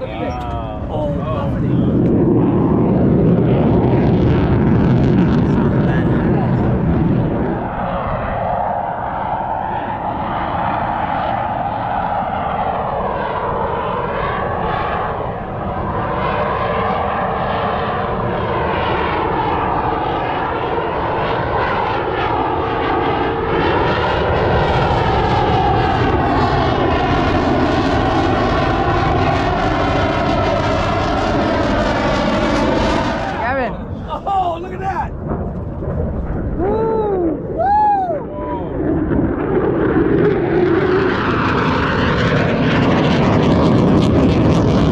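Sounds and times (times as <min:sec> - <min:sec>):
jet engines roaring overhead: 0:00.0 - 0:44.9.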